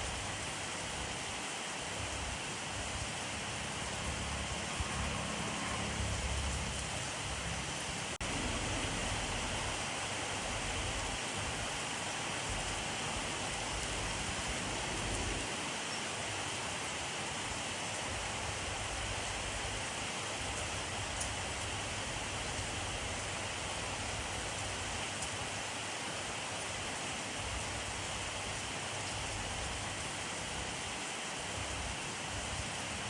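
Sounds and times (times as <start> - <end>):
steady rainfall: 0.0 - 33.0.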